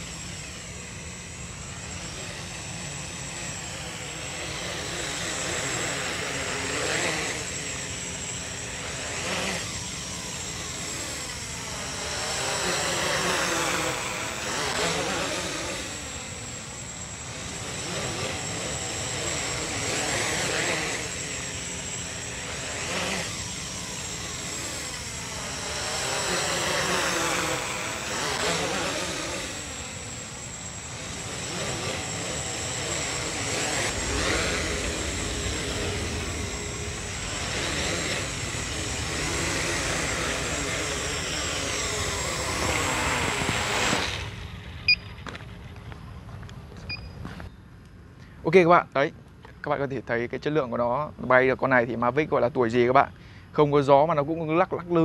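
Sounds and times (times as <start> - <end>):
drone motors whirring: 0.0 - 48.2.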